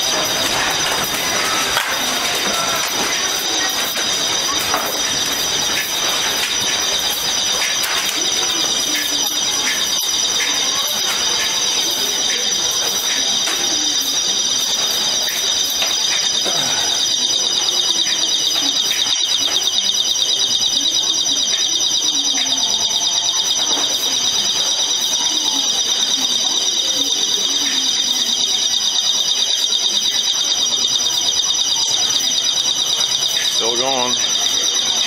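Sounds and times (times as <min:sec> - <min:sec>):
building alarm ringing: 0:00.0 - 0:35.0
faint voices: 0:00.0 - 0:35.0.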